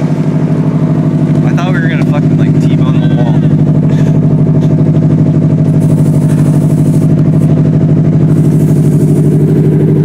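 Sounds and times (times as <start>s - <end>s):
car engine idling loudly: 0.0s - 10.0s.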